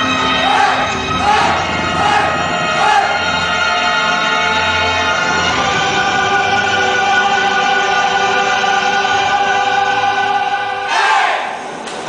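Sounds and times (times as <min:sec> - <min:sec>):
choir holding sustained chord: 0:00.0 - 0:11.7.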